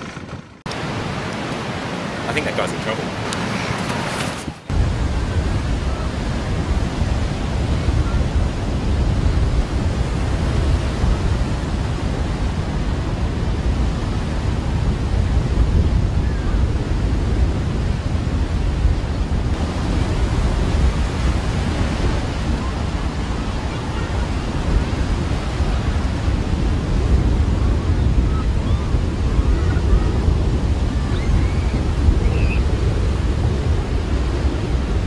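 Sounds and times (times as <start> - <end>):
ocean surf breaking on beach: 0.0 - 35.0
wind buffeting microphone: 2.6 - 35.0.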